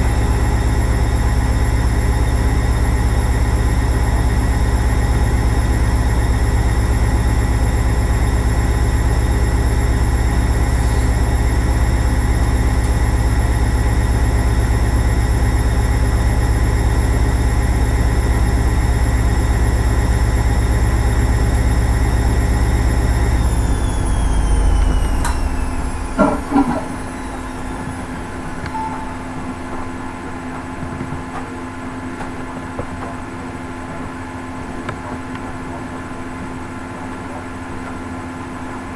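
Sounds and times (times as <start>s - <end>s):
washing machine motor whine: 0.0s - 38.9s.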